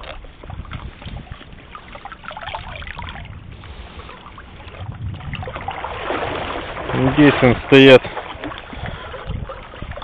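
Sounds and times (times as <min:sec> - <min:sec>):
shallow water sloshing: 0:00.0 - 0:10.0
small splashes: 0:00.0 - 0:10.0.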